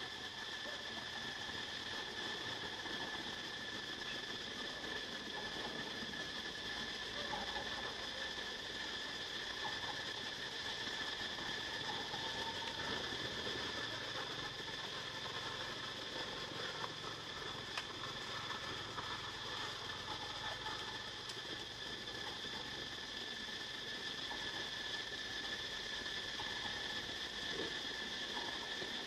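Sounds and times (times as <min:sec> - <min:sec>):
insect chorus: 0:00.0 - 0:29.0.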